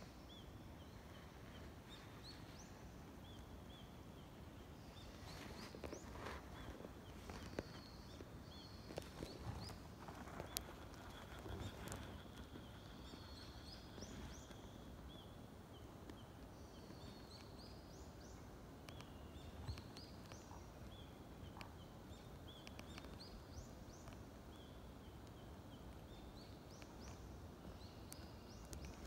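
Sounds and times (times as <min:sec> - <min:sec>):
birdsong chirps: 0:00.0 - 0:29.0.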